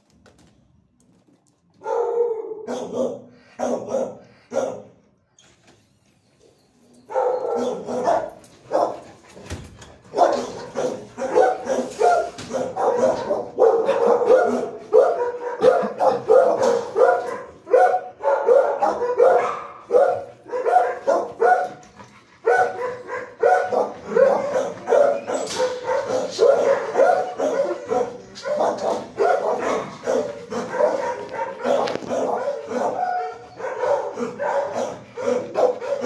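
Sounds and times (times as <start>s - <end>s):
dogs barking: 1.8s - 5.1s, 7.1s - 9.2s, 10.0s - 36.0s.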